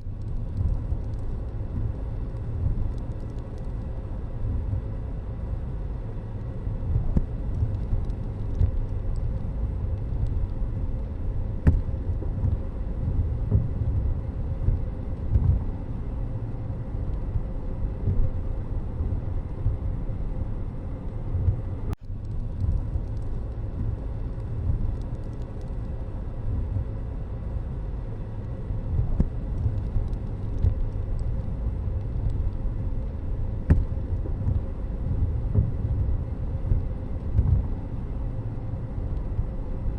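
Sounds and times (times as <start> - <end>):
vehicle rumbling on road: 0.0 - 39.9.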